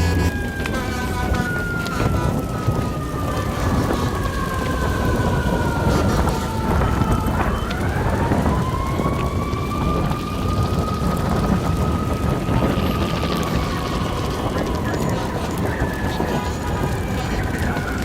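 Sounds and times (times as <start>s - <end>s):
emergency siren wailing: 0.0s - 18.0s.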